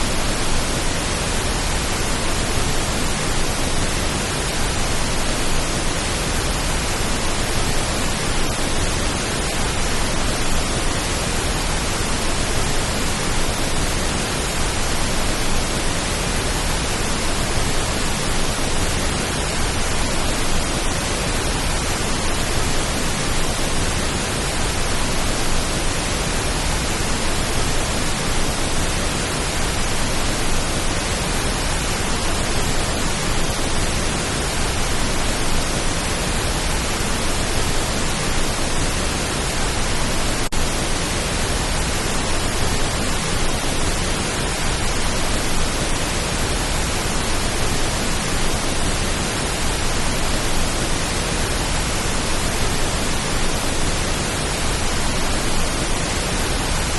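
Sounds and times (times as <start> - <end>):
pink noise hiss: 0.0 - 56.9.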